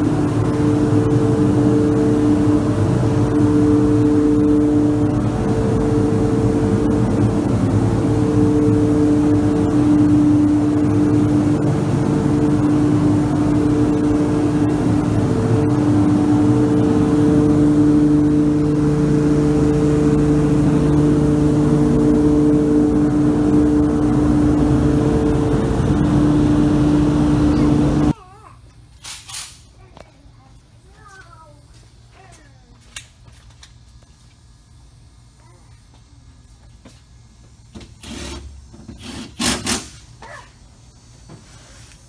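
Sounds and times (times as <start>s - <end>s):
ventilation fan humming: 0.0s - 42.0s.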